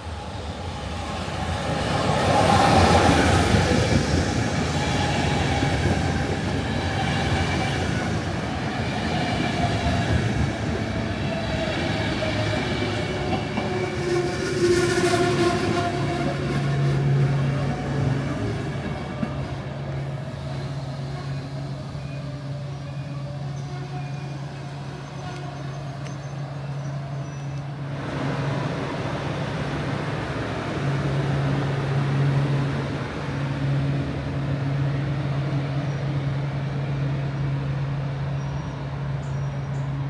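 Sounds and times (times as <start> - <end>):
electric train hum: 0.0 - 40.0
wheels rumbling on rails: 0.0 - 40.0.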